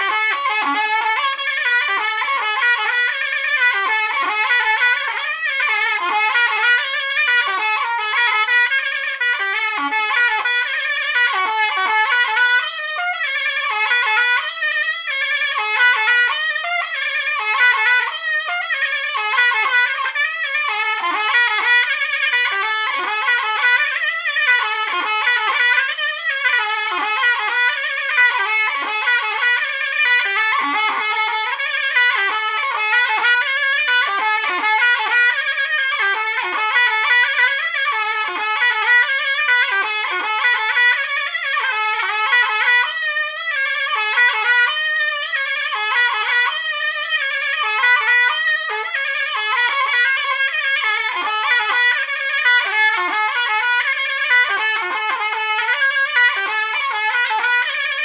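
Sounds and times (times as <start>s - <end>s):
shawm playing folk melody: 0.0s - 58.0s.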